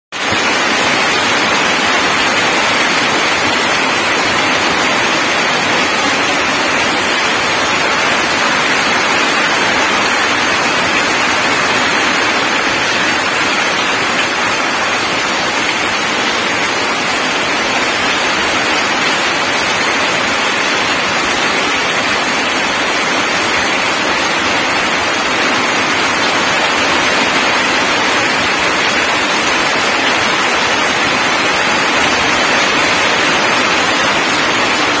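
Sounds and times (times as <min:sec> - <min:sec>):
heavy rain splashing on puddles: 0:00.1 - 0:35.0.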